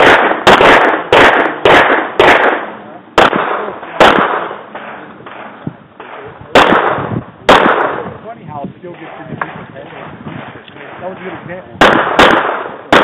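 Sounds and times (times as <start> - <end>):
handgun shots with echo: 0.0 - 8.1, 9.0 - 13.0.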